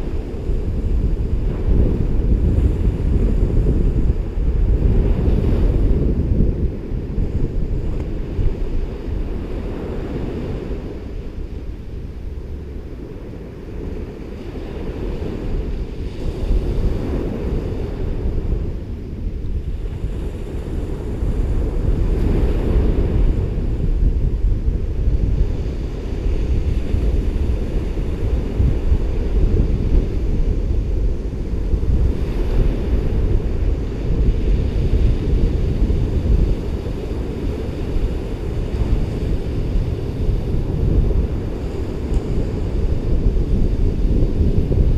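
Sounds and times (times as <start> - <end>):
ocean surf washing on beach: 0.0 - 44.9
wind buffeting microphone: 0.0 - 44.9.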